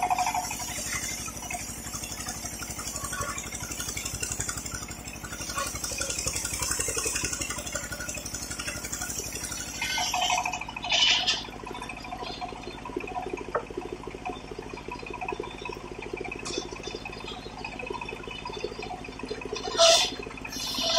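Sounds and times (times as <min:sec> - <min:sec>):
sawmill engine running: 0:00.0 - 0:20.9.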